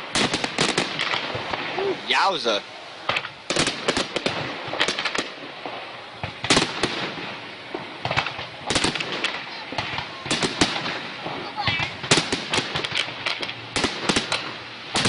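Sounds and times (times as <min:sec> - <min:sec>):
fireworks bangs: 0:00.0 - 0:15.0
steady noisy background: 0:00.0 - 0:15.0.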